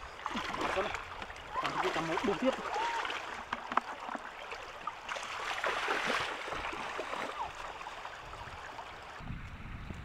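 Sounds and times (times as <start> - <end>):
muddy water splashing and sloshing: 0.0 - 9.2.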